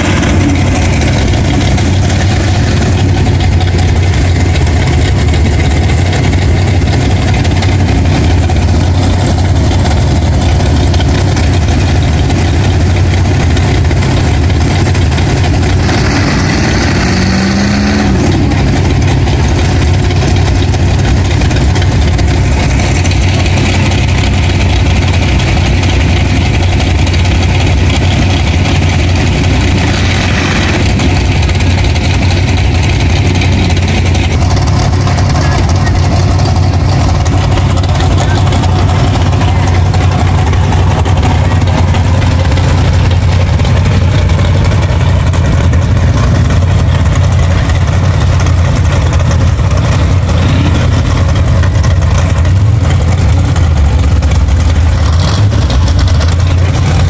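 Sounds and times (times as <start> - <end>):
big engines running: 0.0 - 57.0.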